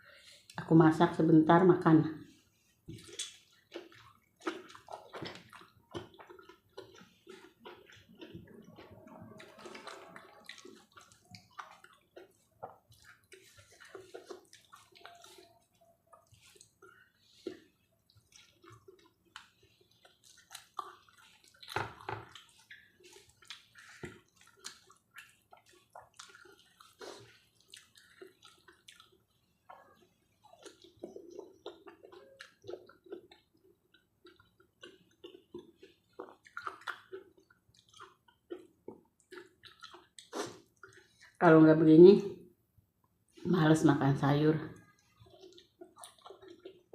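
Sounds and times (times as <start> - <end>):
wet chewing: 2.3 - 41.4, 44.8 - 46.9.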